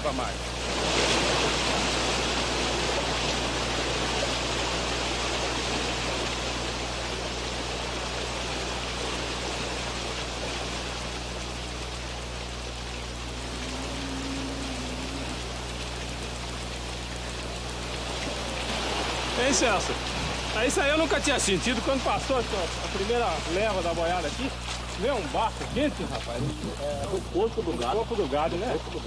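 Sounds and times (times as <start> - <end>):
cattle splashing through water: 0.5 - 29.0.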